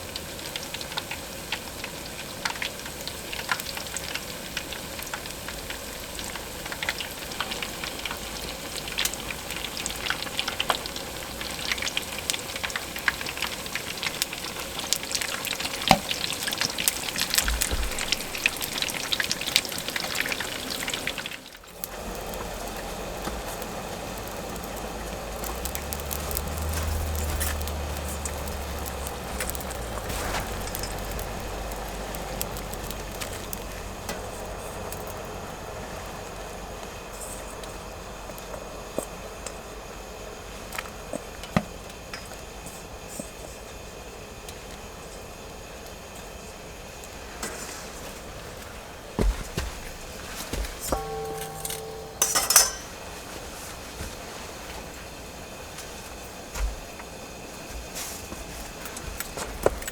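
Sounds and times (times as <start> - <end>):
food sizzling in hot oil: 0.0 - 57.7.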